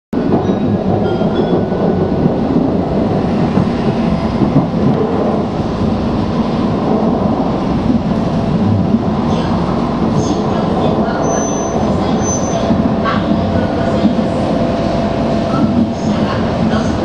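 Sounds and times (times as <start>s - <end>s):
train wheels rumbling on rail: 0.1s - 17.0s.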